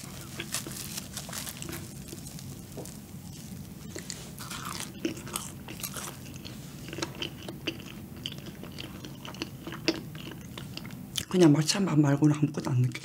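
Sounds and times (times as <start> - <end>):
close-up chewing: 0.0 - 11.4.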